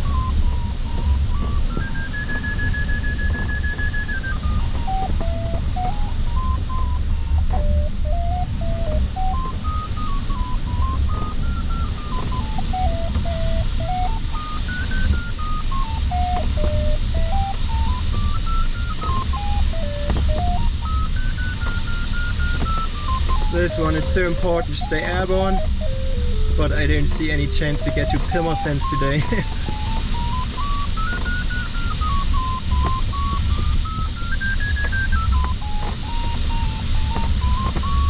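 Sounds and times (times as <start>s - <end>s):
airflow rushing around cockpit: 0.0s - 38.0s
variometer audio tone: 0.0s - 38.0s.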